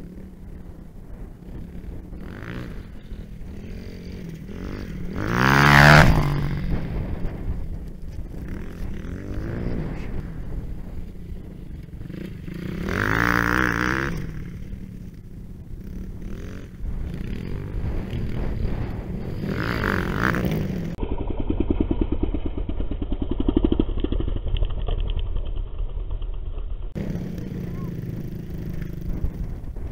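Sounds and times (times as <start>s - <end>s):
dirt bike engines revving: 0.0s - 25.2s, 25.8s - 29.9s.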